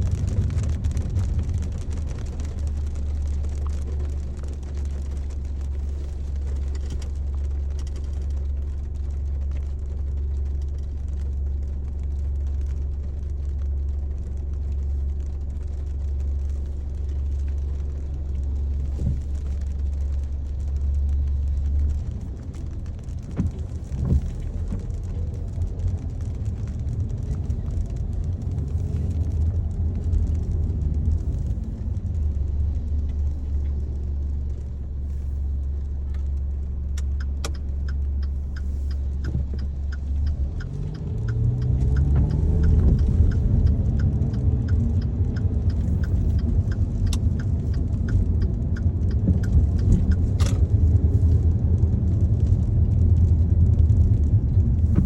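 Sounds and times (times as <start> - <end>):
car road noise in cabin: 0.0 - 55.0.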